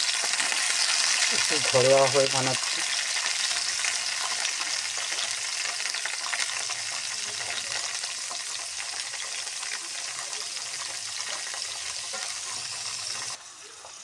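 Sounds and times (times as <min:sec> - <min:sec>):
beans sizzling in hot oil: 0:00.0 - 0:14.0.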